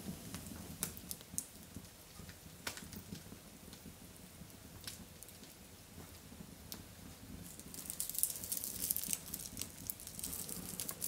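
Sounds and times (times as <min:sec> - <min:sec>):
fire crackles: 0:00.0 - 0:11.0
wood fire burning: 0:00.0 - 0:11.0.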